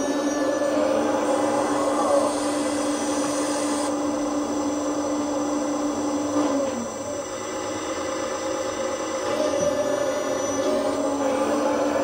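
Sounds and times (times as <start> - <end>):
simulated diesel engine sound: 0.0 - 12.0.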